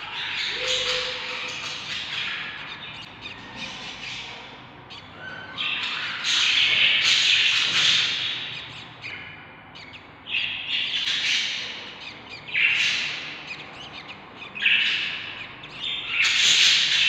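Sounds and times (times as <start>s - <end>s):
bird chicks begging calls: 0.0s - 17.0s.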